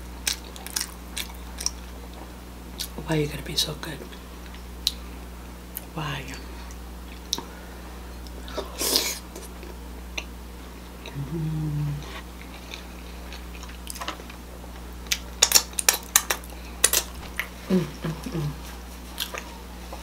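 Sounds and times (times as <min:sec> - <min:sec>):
closed-mouth hum: 0:00.0 - 0:20.0.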